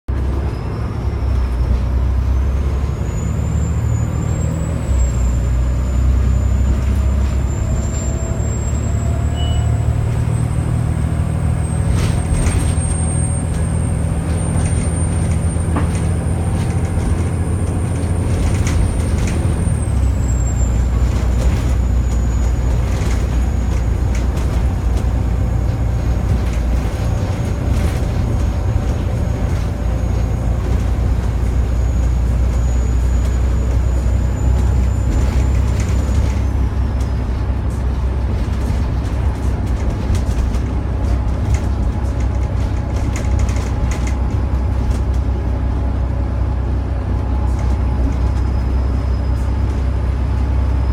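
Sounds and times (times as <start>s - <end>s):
diesel engine drone: 0.1s - 50.9s.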